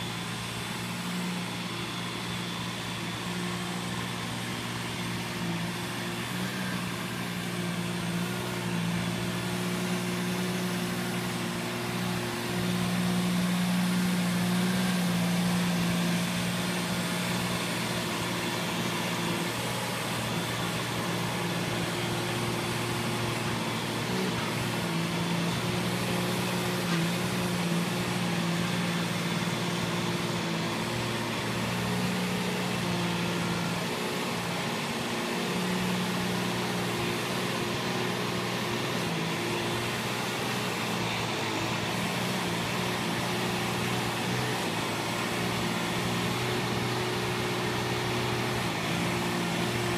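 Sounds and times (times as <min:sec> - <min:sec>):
mini tractor engine running: 0:00.0 - 0:49.9.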